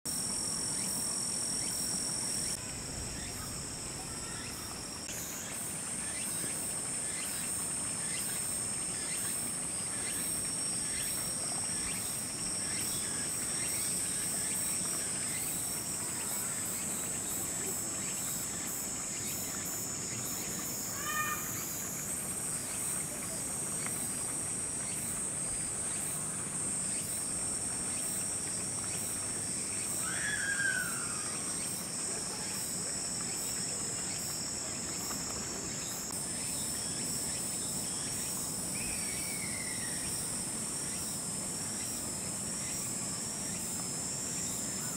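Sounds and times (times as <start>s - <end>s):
insects trilling: 0.1s - 44.9s
rapid pulsed insect chirping: 0.1s - 44.9s
short insect call: 0.1s - 44.9s.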